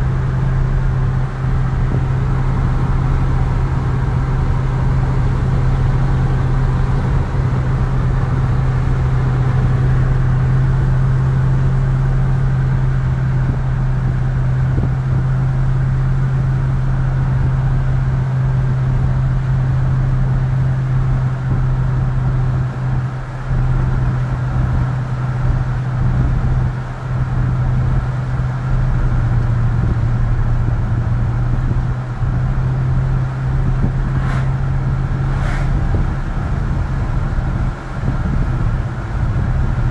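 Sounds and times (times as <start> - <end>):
engine drone: 0.0 - 39.9
road noise: 0.0 - 39.9.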